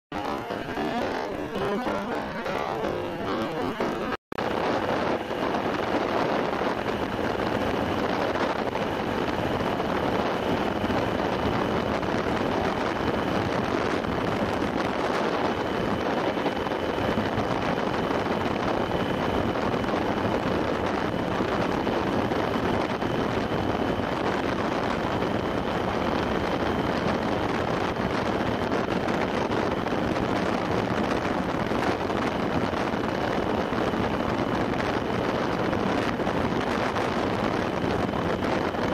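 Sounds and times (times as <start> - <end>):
faint high whine: 0.1 - 38.9
wind rushing over microphone: 0.1 - 38.9.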